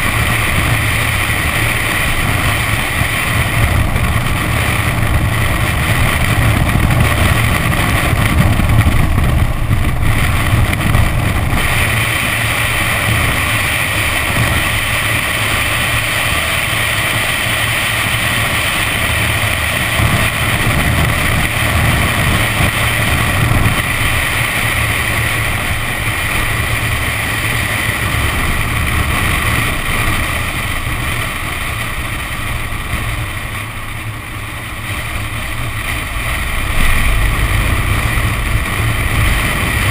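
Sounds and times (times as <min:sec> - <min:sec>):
car engine running at speed: 0:00.0 - 0:39.9
tyres hissing on wet track: 0:00.0 - 0:39.9
wind buffeting microphone: 0:00.0 - 0:39.9.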